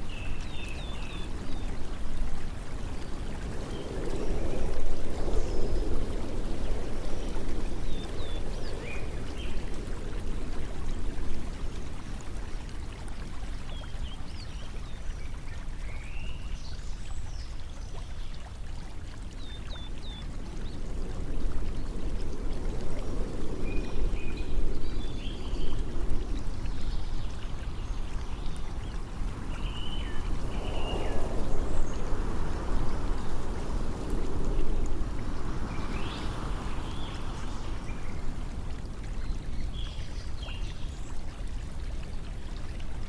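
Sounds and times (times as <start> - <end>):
running water rushing: 0.0 - 43.0.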